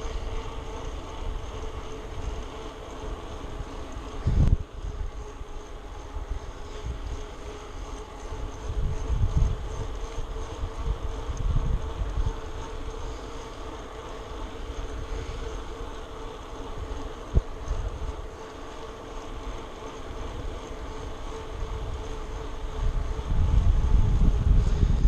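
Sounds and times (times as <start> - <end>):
faint steady hum: 0.0 - 25.0
wind buffeting microphone: 0.0 - 25.0.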